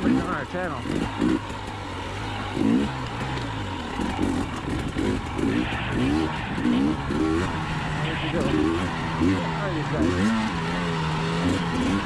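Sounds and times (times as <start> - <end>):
two-stroke dirt bike engine revving: 0.0 - 12.0.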